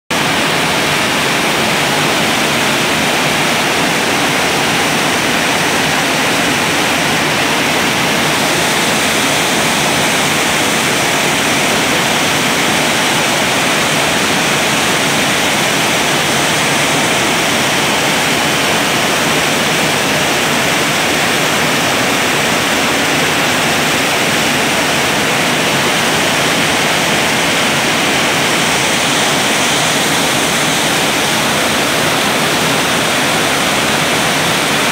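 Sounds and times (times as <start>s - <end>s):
floodwater roaring: 0.1s - 34.9s.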